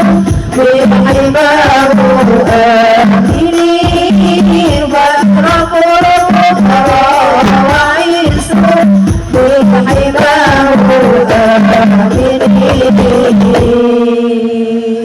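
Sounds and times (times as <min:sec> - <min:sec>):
frame drum percussion: 0:00.0 - 0:14.2.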